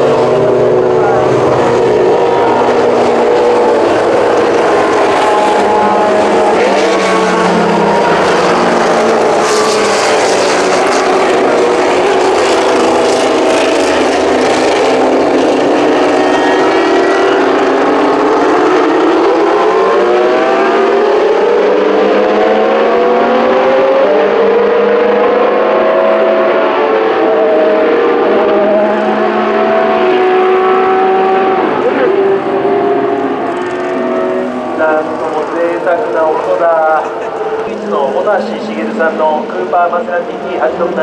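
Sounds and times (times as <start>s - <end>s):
racing car engines accelerating: 0.0s - 41.0s.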